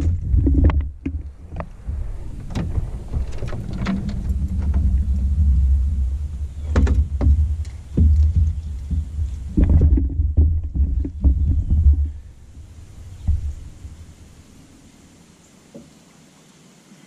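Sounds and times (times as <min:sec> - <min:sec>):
light clicks and knocks from fishing gear: 0:00.0 - 0:14.5
low wind rumble on microphone: 0:00.0 - 0:15.1.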